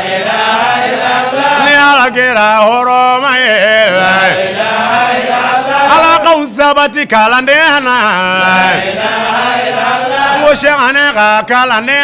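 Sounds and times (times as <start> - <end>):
man chanting into a microphone: 0.8 - 12.0.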